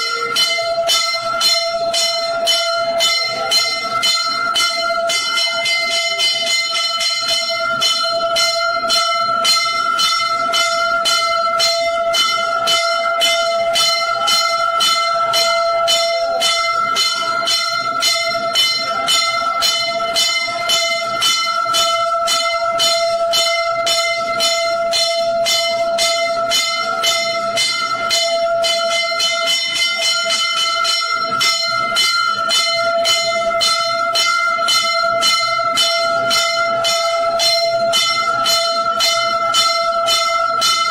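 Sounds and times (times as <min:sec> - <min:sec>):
temple bells ringing fast: 0:00.0 - 0:40.9.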